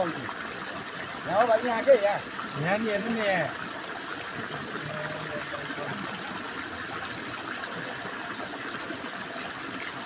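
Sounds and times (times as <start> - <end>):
running water rushing: 0.0 - 10.0.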